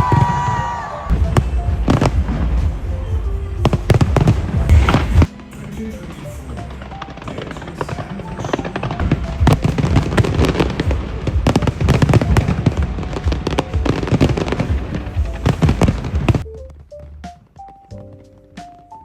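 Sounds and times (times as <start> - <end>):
fireworks bangs and crackling: 0.0 - 16.4
music: 0.0 - 19.0.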